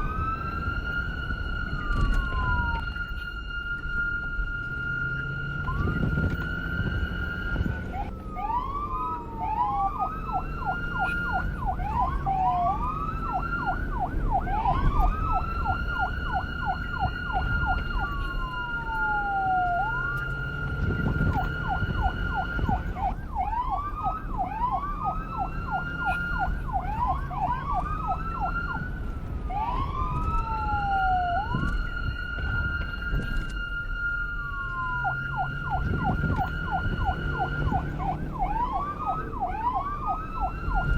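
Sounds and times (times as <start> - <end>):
police electronic siren: 0.0 - 40.9.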